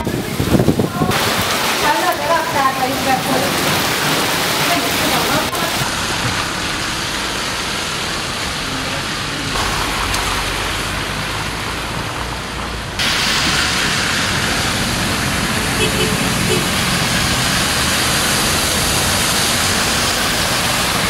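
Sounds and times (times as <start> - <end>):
heavy rain: 0.0 - 21.0
tyres splashing through water: 0.0 - 21.0.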